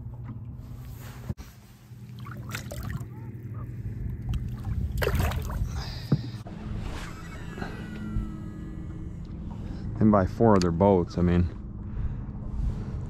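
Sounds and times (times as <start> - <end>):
boat motor humming: 1.8 - 12.5.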